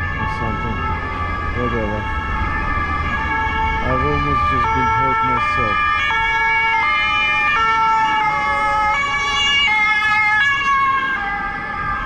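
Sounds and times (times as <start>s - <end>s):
ambulance two-tone siren: 0.0s - 12.0s
road traffic rumble: 0.0s - 12.0s.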